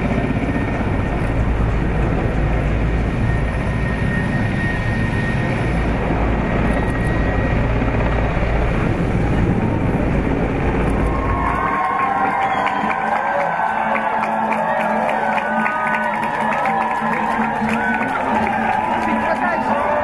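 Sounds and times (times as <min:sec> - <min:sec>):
helicopter rotor and engine noise: 0:00.0 - 0:20.0.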